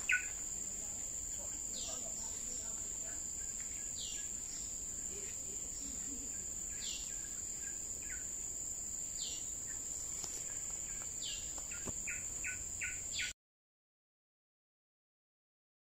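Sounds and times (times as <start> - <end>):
birds calling: 0.0 - 13.4
insects droning: 0.0 - 13.4.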